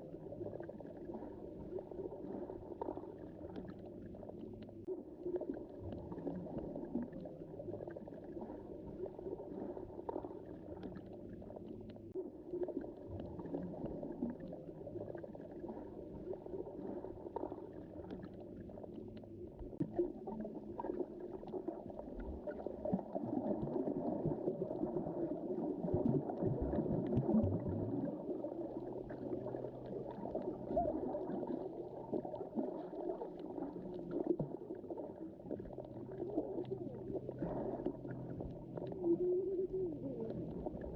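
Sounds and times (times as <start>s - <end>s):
underwater wash of moving water: 0.0s - 40.9s.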